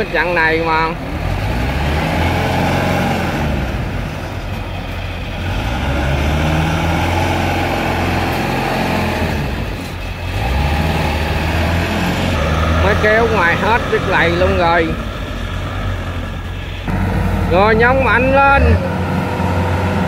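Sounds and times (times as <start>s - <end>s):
diesel engines under heavy load: 0.0s - 20.0s.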